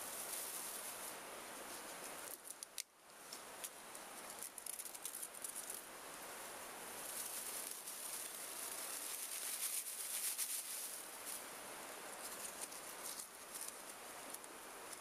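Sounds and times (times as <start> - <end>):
dry grass rustling and crackling: 0.0 - 15.0.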